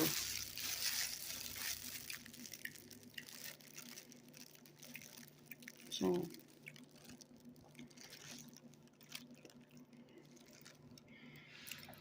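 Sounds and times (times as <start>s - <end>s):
faint crackles: 0.0s - 12.0s
steady low hum: 0.0s - 12.0s.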